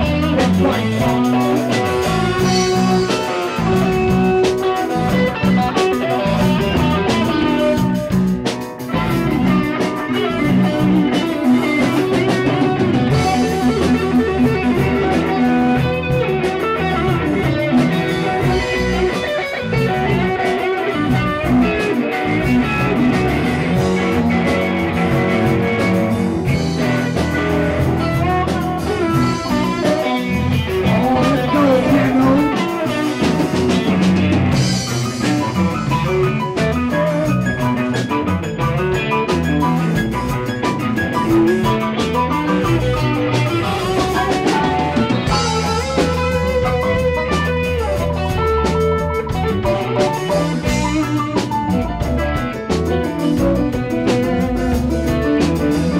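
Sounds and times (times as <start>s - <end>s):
drum kit: 0.0s - 55.9s
electric guitar: 0.0s - 55.9s.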